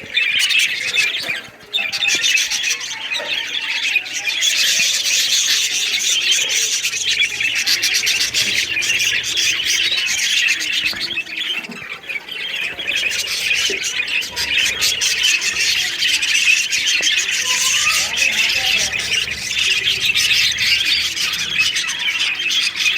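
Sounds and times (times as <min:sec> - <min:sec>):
small birds chattering and squawking: 0:00.0 - 0:22.9.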